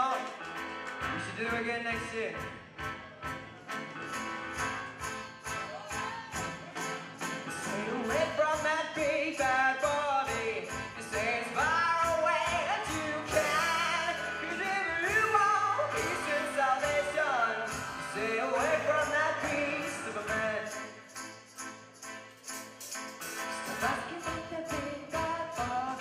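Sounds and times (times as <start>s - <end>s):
live band playing: 0.0s - 26.0s.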